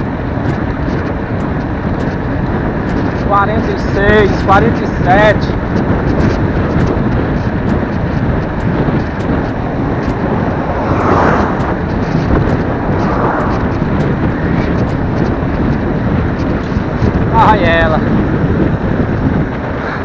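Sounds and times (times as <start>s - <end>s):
road noise: 0.0s - 20.0s
wind rushing over microphone: 0.0s - 20.0s.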